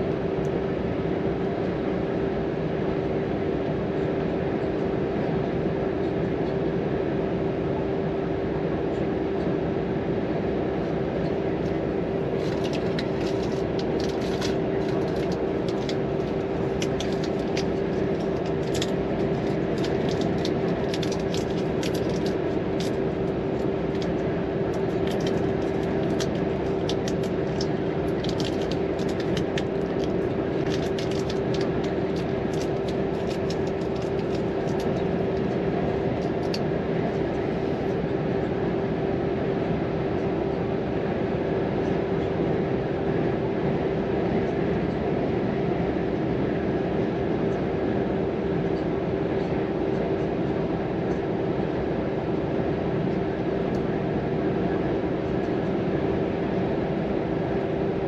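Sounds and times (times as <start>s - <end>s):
truck engine and road drone: 0.0s - 58.0s.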